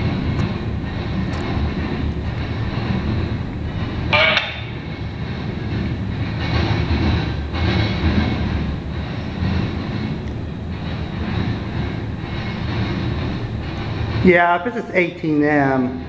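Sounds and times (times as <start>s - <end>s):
high-pitched squeal: 0.0s - 16.0s
train wheels rumbling on rail: 0.0s - 16.0s.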